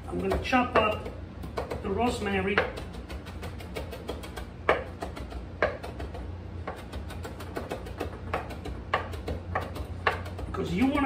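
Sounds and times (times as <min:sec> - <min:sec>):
knife chopping on plastic board: 0:00.1 - 0:11.0.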